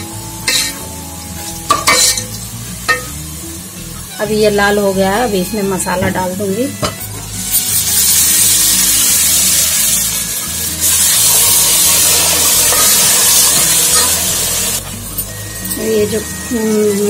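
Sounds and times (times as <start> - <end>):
paste sizzling in hot oil: 0.0 - 4.3, 6.2 - 17.0.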